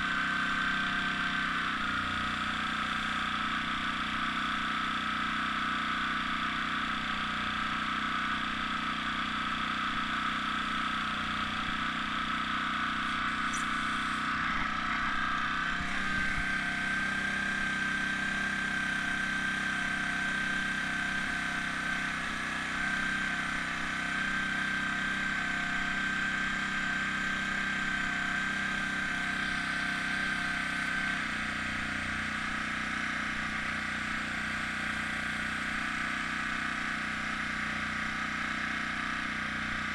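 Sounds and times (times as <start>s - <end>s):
air compressor motor running: 0.0s - 39.9s.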